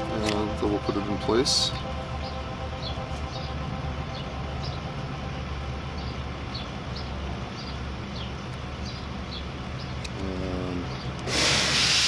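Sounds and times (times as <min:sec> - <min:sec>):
background traffic rumble: 0:00.0 - 0:12.0.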